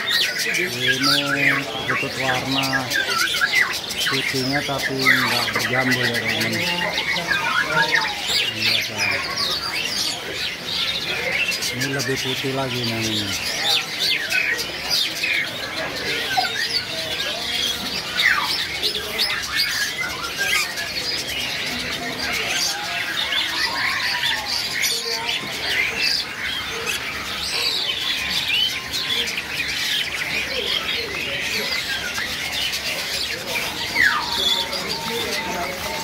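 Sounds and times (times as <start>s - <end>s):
caged birds chattering: 0.0s - 36.0s.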